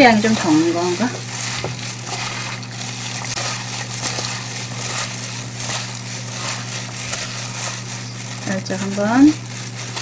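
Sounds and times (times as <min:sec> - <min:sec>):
steady low hum: 0:00.0 - 0:10.0
wet crinkly rustle of food: 0:00.0 - 0:10.0.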